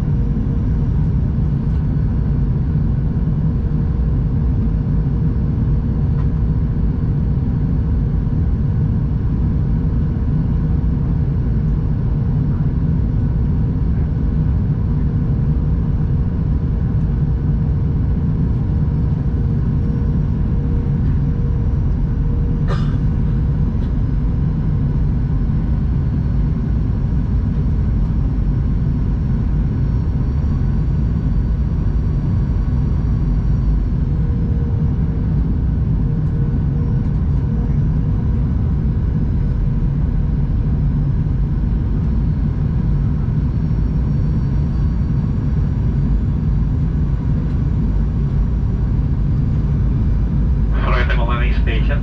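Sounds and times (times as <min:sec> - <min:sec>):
airplane cabin engine rumble: 0:00.0 - 0:52.0
faint steady hum: 0:00.0 - 0:52.0.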